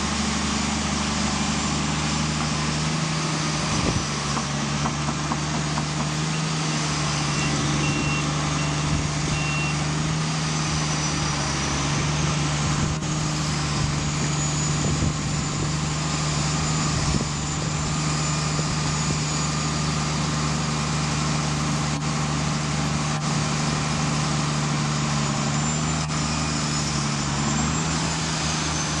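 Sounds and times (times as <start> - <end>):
dense mechanical noise: 0.0 - 29.0
drilling rig engine hum: 0.0 - 29.0.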